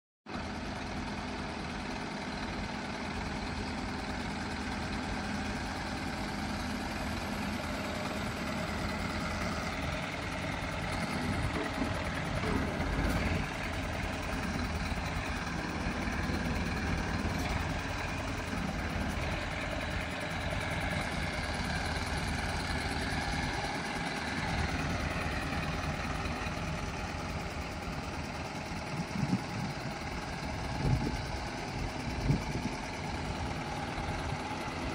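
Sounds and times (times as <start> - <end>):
diesel truck engine idling: 0.3 - 34.9.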